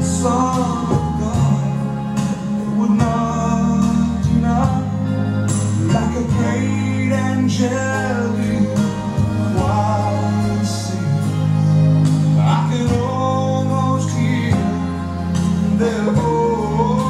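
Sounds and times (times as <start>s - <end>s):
guitar: 0.0s - 17.0s
held bass notes: 0.0s - 17.0s
person singing with vibrato: 0.0s - 17.0s.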